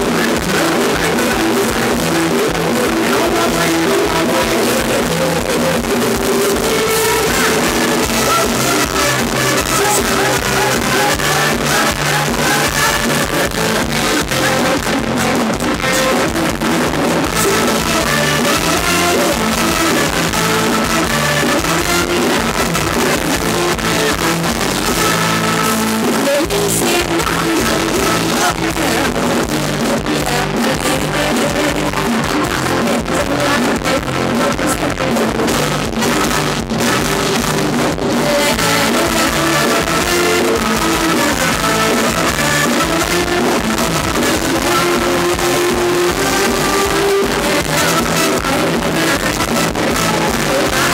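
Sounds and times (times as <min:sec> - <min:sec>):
live band playing dance music: 0:00.0 - 0:50.9.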